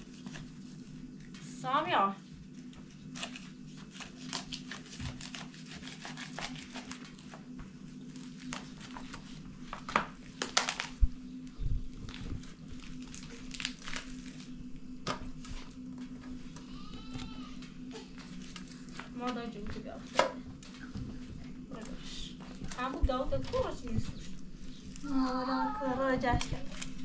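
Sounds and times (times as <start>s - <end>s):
steady low hum: 0.0s - 27.0s
crinkling: 2.5s - 27.0s.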